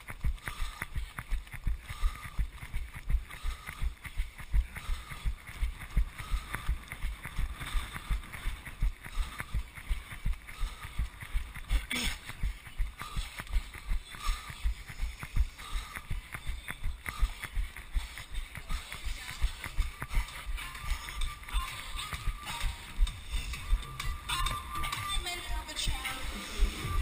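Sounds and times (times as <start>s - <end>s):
running footsteps on wet pavement: 0.0s - 27.0s.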